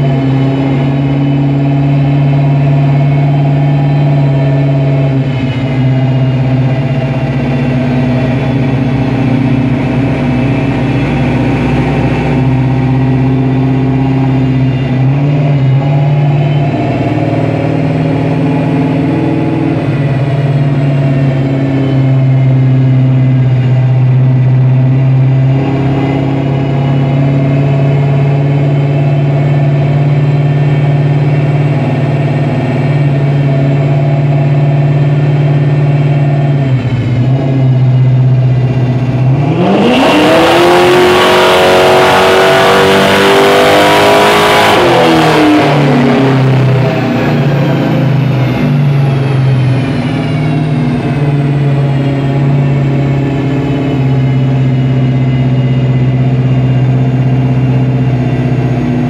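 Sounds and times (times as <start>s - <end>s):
car engine running hard: 0.0s - 59.0s.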